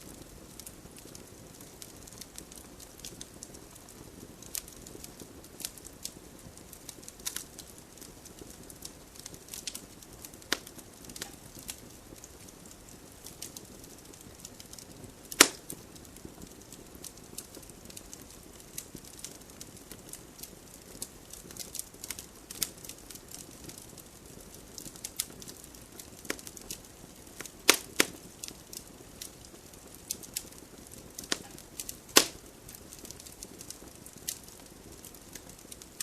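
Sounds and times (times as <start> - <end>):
campfire crackling and popping: 0.0 - 36.0
fire low hiss: 0.0 - 36.0.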